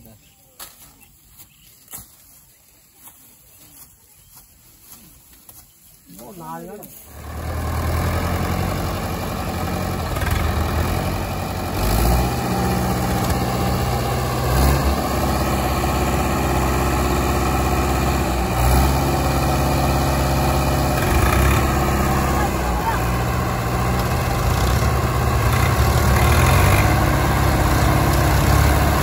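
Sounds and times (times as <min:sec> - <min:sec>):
tractor engines running under load: 0:04.9 - 0:29.0.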